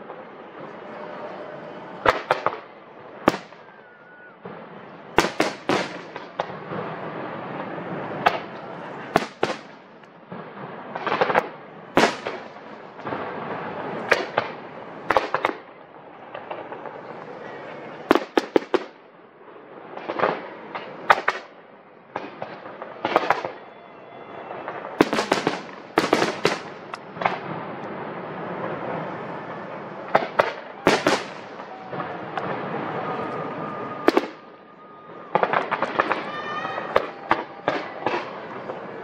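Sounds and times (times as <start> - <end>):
continuous rumble: 0.0 - 3.8, 4.4 - 23.6, 24.6 - 39.0
fireworks bangs: 0.0 - 39.0.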